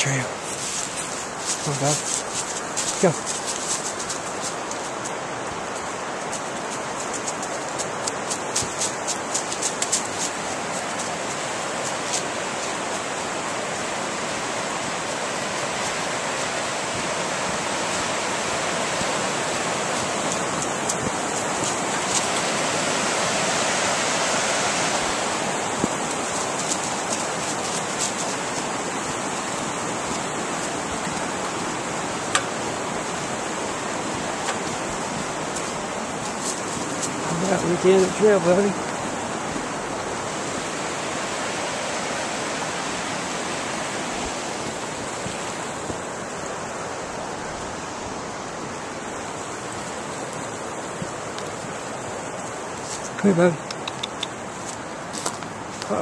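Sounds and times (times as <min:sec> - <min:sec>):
footsteps in dry leaves: 0:00.0 - 0:46.7, 0:54.4 - 0:56.0
river water rushing: 0:00.0 - 0:56.0.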